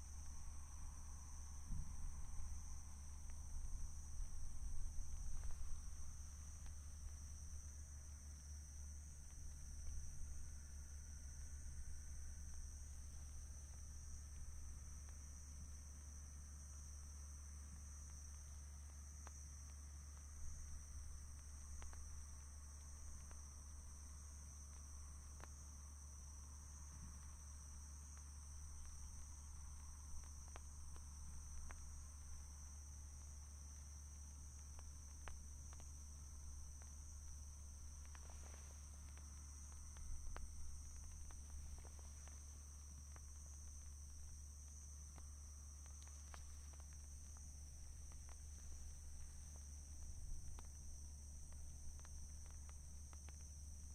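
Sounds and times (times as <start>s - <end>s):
low hum: 0.0s - 53.9s
night insects chirring: 0.0s - 53.9s.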